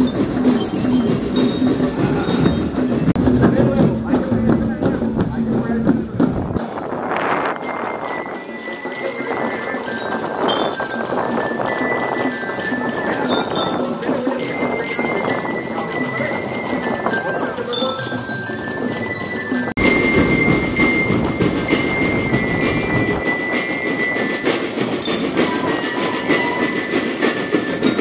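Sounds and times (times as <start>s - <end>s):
bell-lyre melody: 0.0s - 3.2s, 7.2s - 28.0s
drums: 0.0s - 28.0s
marching band music: 0.0s - 28.0s.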